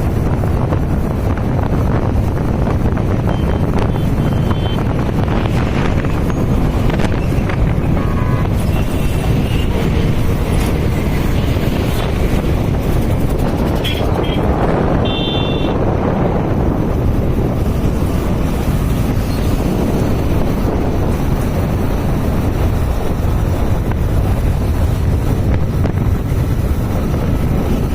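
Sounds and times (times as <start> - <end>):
road and traffic noise: 0.0 - 27.9
wind on microphone: 0.0 - 27.9.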